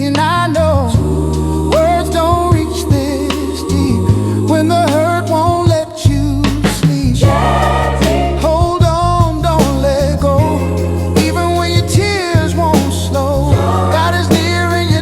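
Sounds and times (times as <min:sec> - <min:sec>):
soul music with singing: 0:00.0 - 0:15.0.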